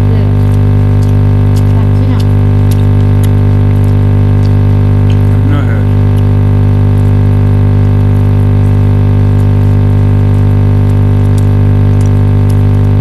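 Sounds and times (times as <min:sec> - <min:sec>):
loud low steady hum: 0:00.0 - 0:13.0.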